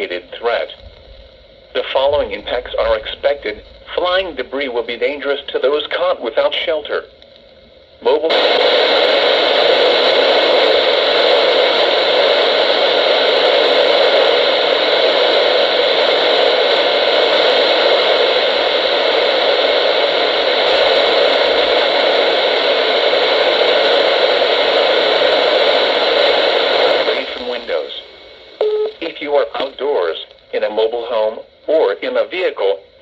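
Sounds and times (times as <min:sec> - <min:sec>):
radio static hiss: 0:00.0 - 0:33.0.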